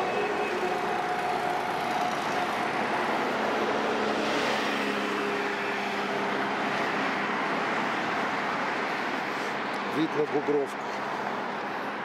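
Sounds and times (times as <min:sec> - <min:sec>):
bus driving past: 0:00.0 - 0:12.0
road traffic: 0:00.0 - 0:12.0.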